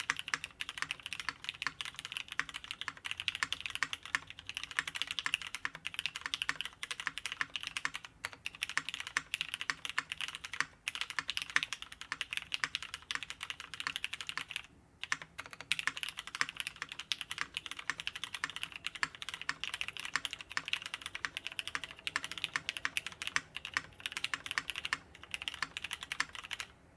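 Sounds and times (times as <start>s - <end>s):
fast mechanical keyboard typing: 0.0s - 26.8s.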